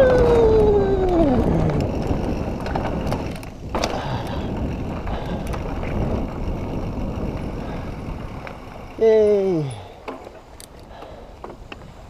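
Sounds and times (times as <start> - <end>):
wind on microphone: 0.0 - 10.0
bike clicks and rattles: 0.0 - 12.0
tyre noise on dirt: 0.0 - 12.0.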